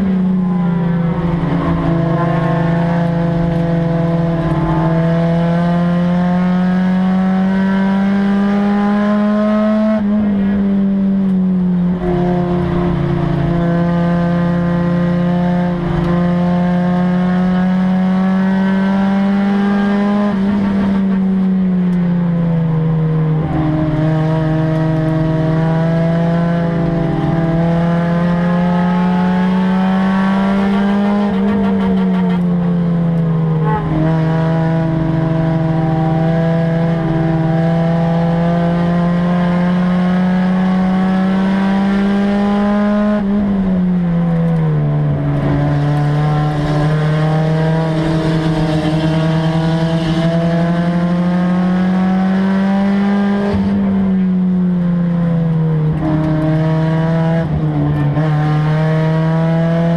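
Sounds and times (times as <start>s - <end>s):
race car engine droning: 0.0s - 59.9s.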